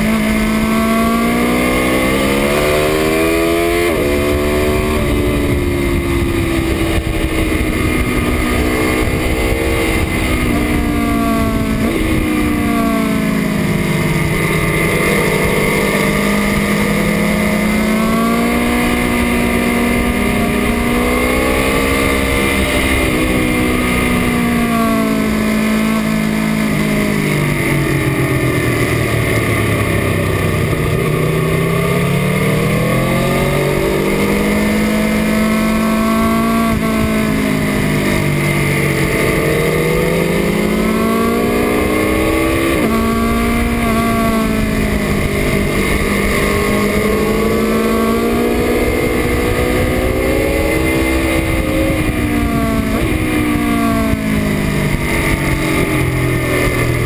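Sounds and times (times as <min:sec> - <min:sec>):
motorcycle engine revving: 0:00.0 - 0:57.0
wind rush on microphone: 0:00.0 - 0:57.0.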